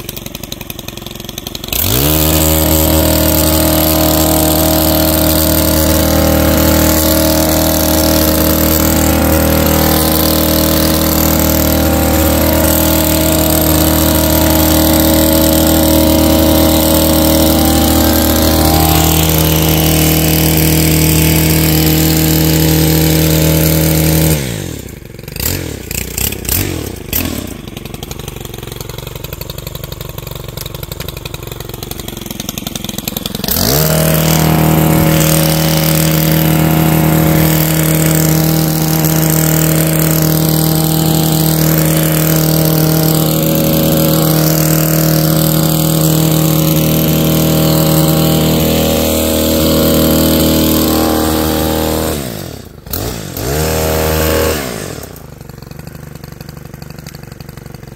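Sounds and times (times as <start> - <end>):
power scythe engine revving: 0.0 - 57.9.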